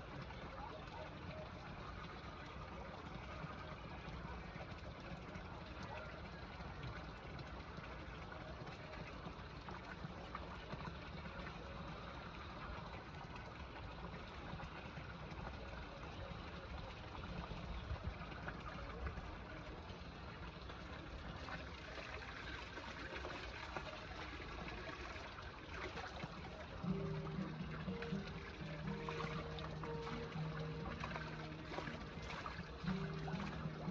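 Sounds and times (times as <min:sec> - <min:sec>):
running water rushing and trickling: 0:00.0 - 0:33.9.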